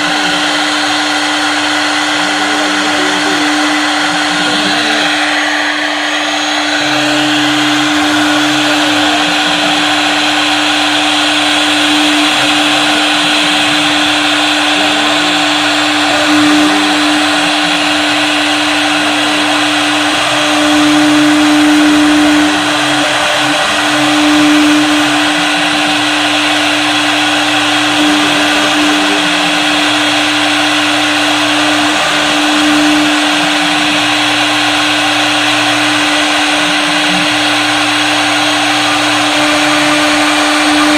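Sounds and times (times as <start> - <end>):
axis motors humming: 0.0 - 40.9
router spindle whine: 0.0 - 40.9.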